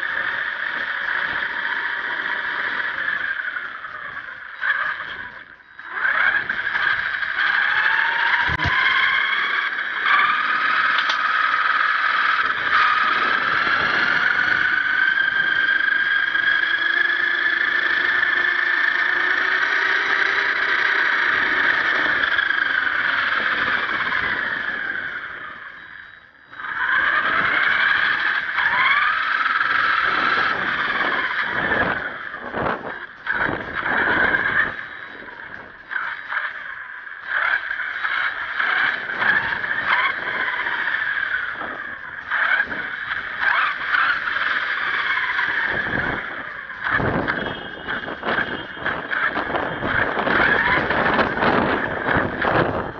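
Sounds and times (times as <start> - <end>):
toy truck motor whining: 0.0 - 52.9.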